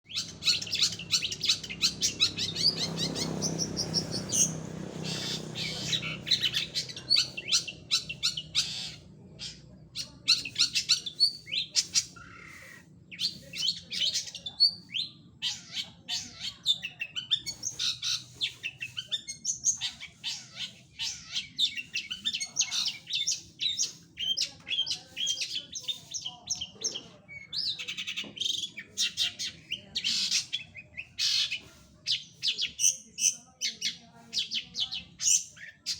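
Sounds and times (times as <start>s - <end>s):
bird song chirps and trills: 0.0s - 35.9s.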